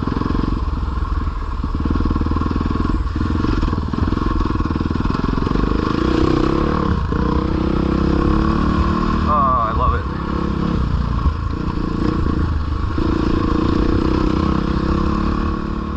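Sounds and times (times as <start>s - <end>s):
dirt bike engine revving: 1.7s - 15.9s.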